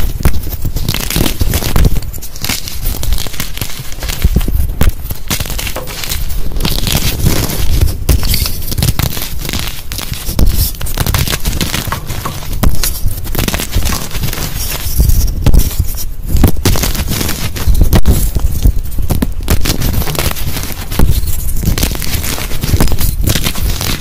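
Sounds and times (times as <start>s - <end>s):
chalk crushed by hand: 0.0s - 24.0s.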